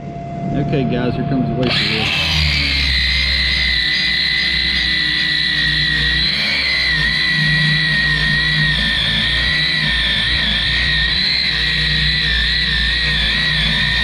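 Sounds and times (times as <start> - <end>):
angle grinder grinding metal: 1.6 - 14.0.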